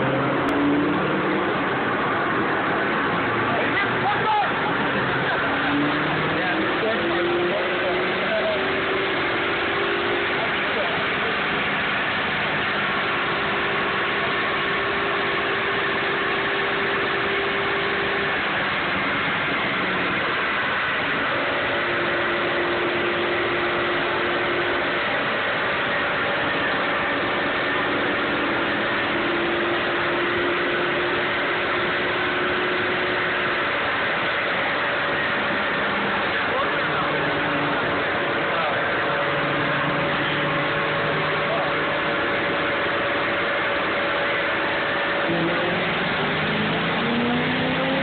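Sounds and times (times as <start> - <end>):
car engine running steadily: 0.0 - 48.0
loud rush of noise: 0.0 - 48.0.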